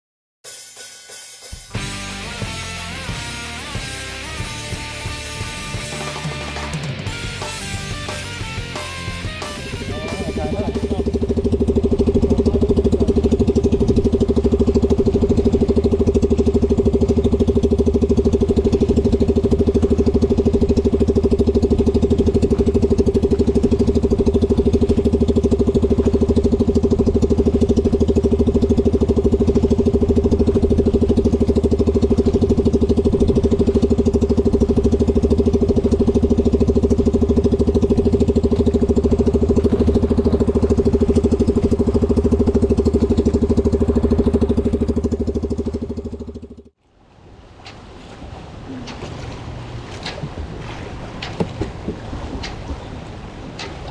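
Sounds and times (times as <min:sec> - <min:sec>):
engine running steadily: 0:01.7 - 0:53.9.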